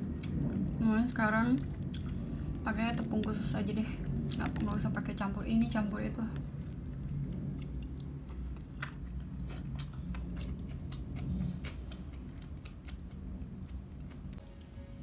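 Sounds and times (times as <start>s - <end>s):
low hum: 0.0s - 15.0s
chewing crispy fried chicken: 0.1s - 14.4s.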